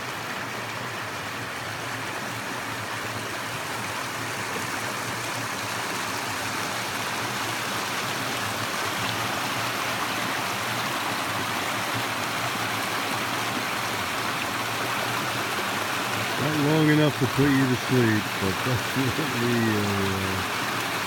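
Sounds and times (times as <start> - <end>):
creek water gurgling over rocks: 0.0 - 21.0.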